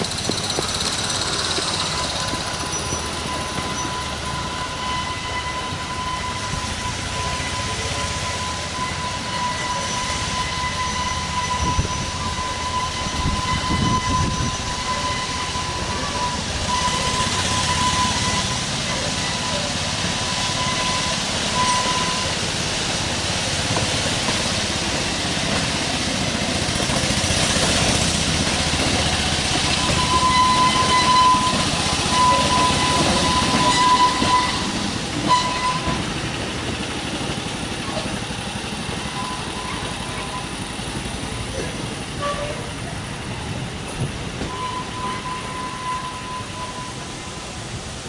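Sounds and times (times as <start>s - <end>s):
model locomotive running: 0.0s - 48.0s.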